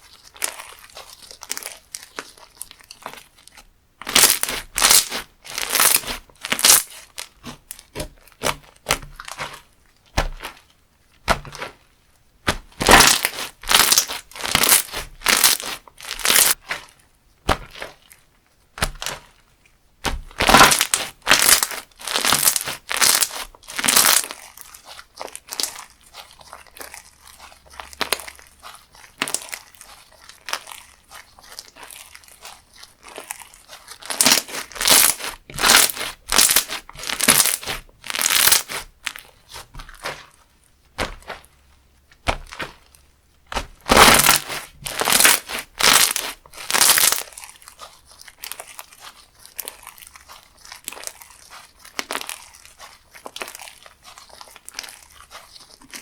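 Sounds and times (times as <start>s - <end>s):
slime squeezed crunchy squishes: 0.0s - 56.0s.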